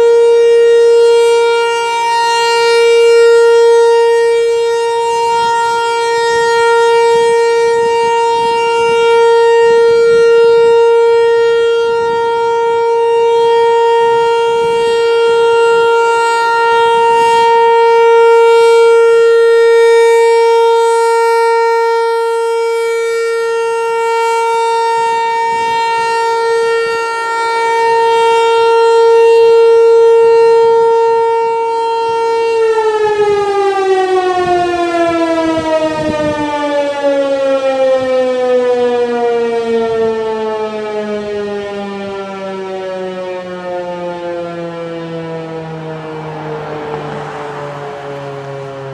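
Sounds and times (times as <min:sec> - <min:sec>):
rotating warning siren: 0:00.0 - 0:48.9.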